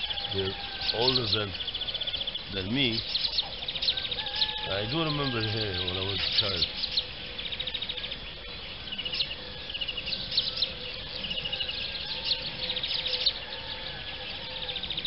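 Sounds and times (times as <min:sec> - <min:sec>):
small birds chirping and trilling: 0:00.0 - 0:15.0.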